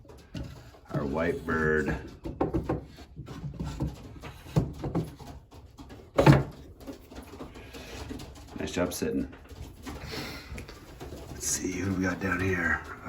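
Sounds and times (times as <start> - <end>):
pigeons rustling and tapping: 0.0 - 13.0.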